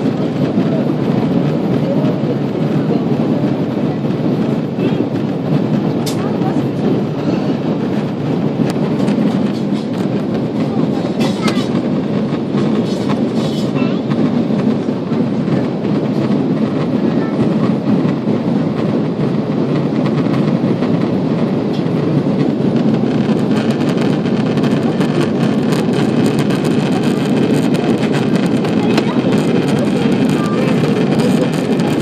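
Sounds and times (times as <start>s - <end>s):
airliner cabin engine roar: 0.0s - 32.0s.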